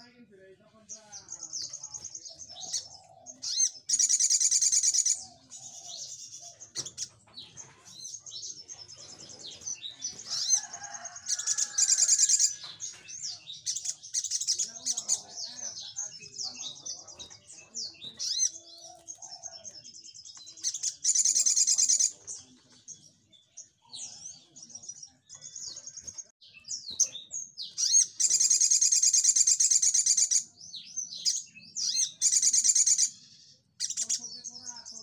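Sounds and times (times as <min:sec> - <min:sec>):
bird chirping and twittering: 0:00.0 - 0:35.0.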